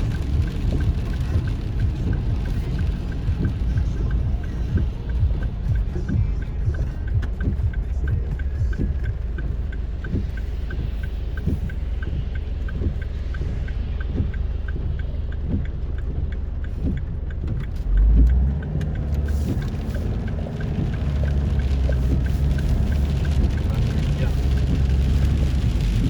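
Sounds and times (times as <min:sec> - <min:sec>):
heavy rain on vehicle: 0:00.0 - 0:26.0
light repeating tick: 0:00.0 - 0:26.0
road and engine rumble: 0:00.0 - 0:26.0.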